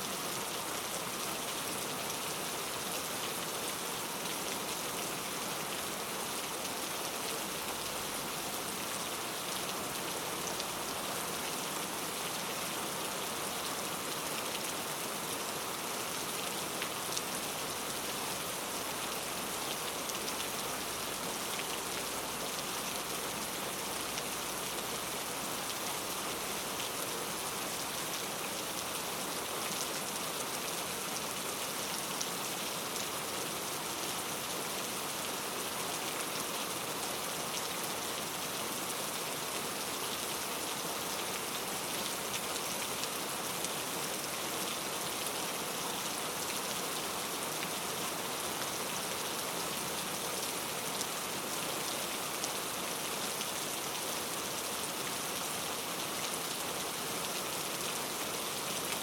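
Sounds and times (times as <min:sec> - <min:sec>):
rain on foliage: 0:00.0 - 0:59.0.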